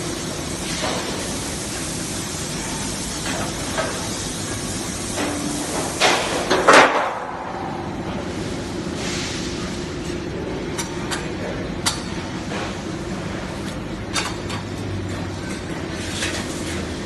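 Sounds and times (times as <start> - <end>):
welding machine humming: 0.0 - 17.0.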